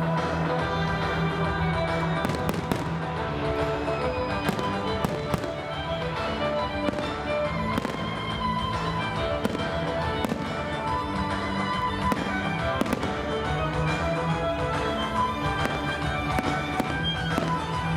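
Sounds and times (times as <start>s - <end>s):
music playing: 0.0s - 17.9s
fireworks bangs: 2.2s - 17.9s.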